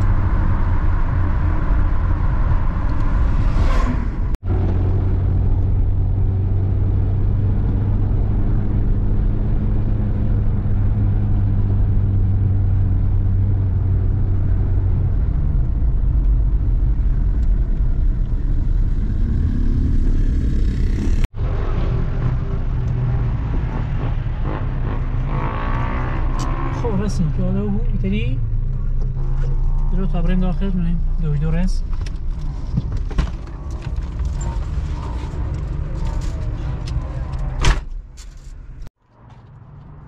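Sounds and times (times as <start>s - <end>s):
car rumbling: 0.0s - 40.0s.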